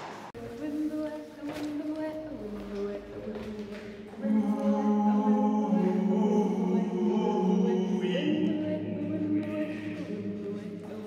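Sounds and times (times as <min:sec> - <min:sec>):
voices singing long echoing notes: 0:00.4 - 0:11.0.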